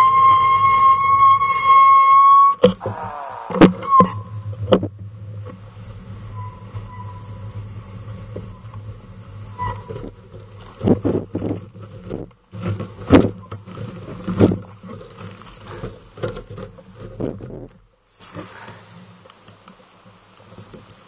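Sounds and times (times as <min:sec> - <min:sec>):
bicycle trailer rolling rumble: 0:00.0 - 0:21.0.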